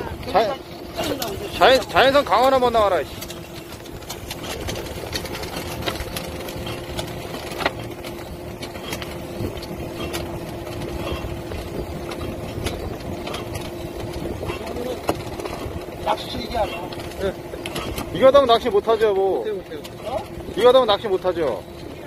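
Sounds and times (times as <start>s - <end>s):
boat motor and net hauler hum: 0.0s - 22.0s.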